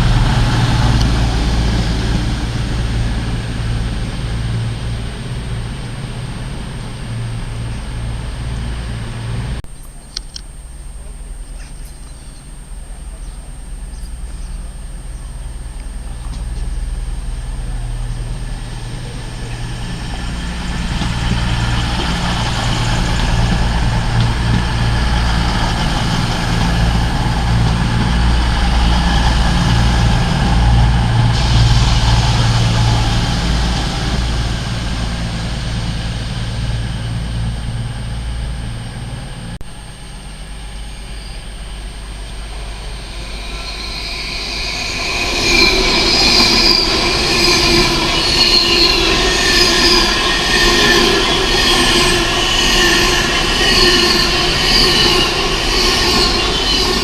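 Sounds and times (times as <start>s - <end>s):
approaching train wheel noise: 0.0s - 57.0s
train low drone: 0.0s - 57.0s.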